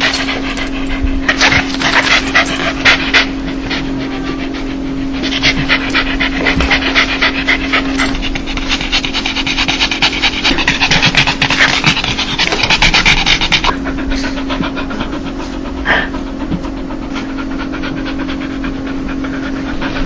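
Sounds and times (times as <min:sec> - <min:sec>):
dog panting fast: 0:00.0 - 0:20.0
steady low hum: 0:00.0 - 0:20.0.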